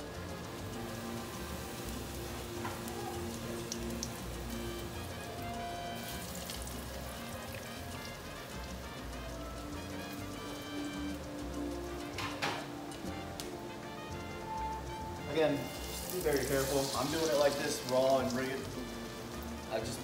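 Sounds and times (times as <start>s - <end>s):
background music: 0.0s - 20.0s
food sizzling in hot oil: 0.0s - 20.0s.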